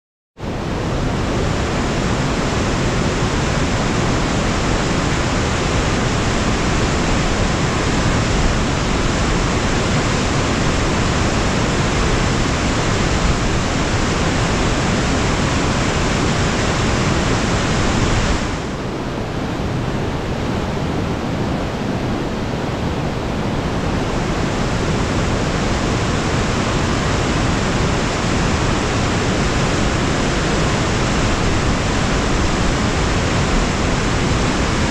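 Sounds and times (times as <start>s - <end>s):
creek rushing through rapids: 0.4s - 34.9s.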